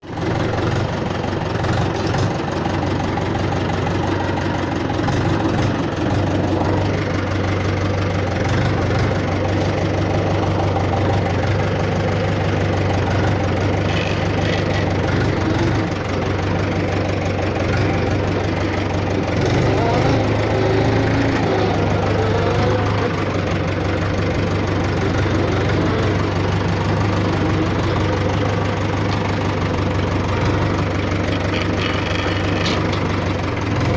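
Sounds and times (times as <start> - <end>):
engine idling with knocking clatter: 0.0 - 33.9.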